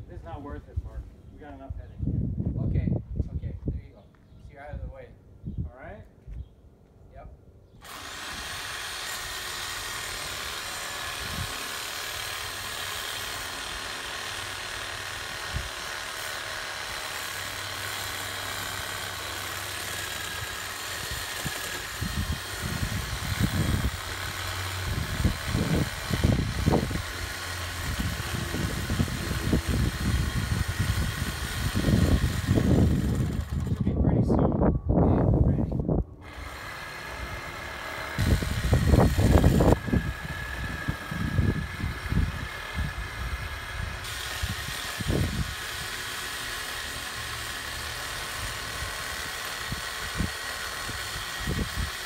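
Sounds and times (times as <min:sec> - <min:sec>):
chainsaw running: 0:07.8 - 0:34.0, 0:36.2 - 0:52.0.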